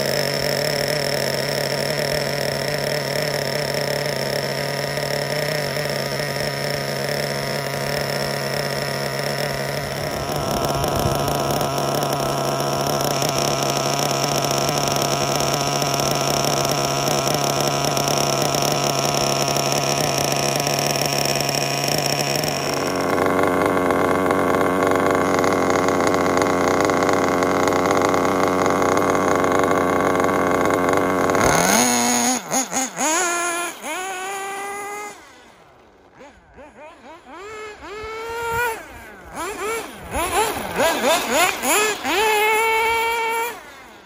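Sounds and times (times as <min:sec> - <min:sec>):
small model engine idling and revving: 0:00.0 - 0:44.0.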